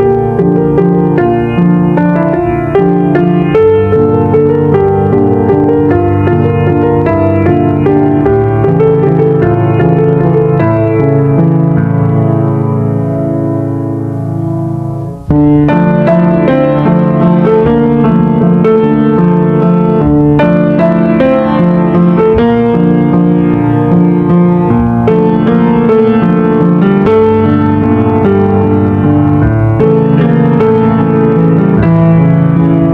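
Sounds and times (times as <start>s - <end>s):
piano tune: 0.0s - 32.9s.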